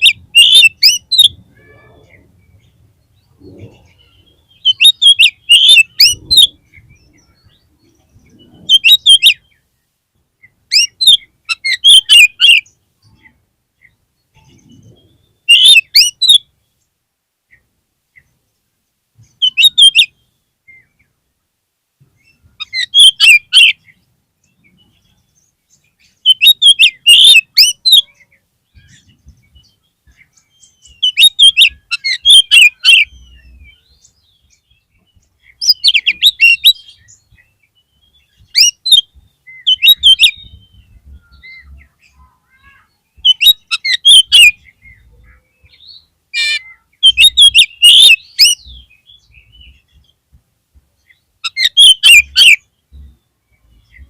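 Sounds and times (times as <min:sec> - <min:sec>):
bird singing whistled notes: 0:00.0 - 0:09.7, 0:10.4 - 0:16.8, 0:19.2 - 0:21.2, 0:22.1 - 0:50.2, 0:51.0 - 0:54.0.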